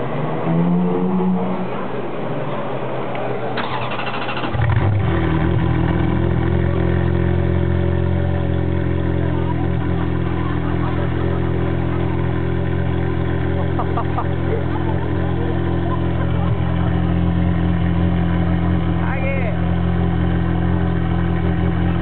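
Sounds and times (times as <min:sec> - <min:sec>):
race car engine idling: 0:01.5 - 0:22.0.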